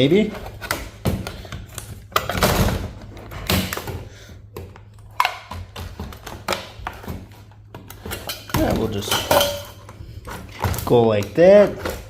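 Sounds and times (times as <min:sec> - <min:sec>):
hand tools knocking and scraping: 0:00.1 - 0:12.0.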